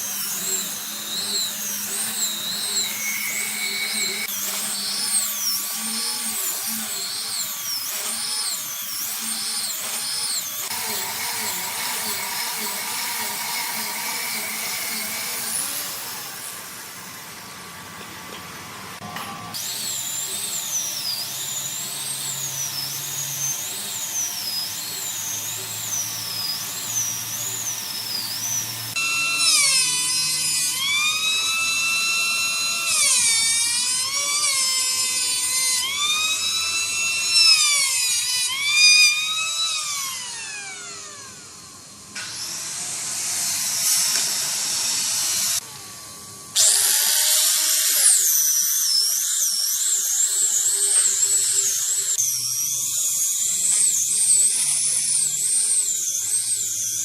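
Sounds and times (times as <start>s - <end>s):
power tool high whine: 0.0s - 17.6s, 18.9s - 57.0s.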